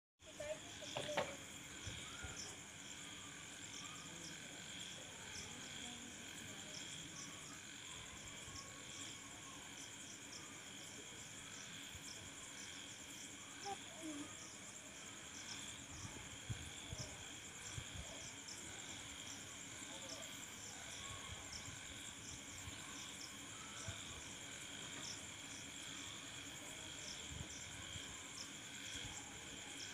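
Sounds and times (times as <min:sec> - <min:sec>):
faint insects chirring: 0:00.2 - 0:29.9.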